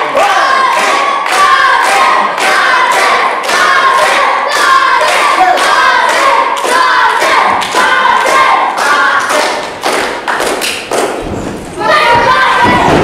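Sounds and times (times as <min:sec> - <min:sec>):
crowd chanting: 0:00.0 - 0:09.9, 0:11.8 - 0:13.0
crowd clapping rhythmically: 0:00.0 - 0:11.6.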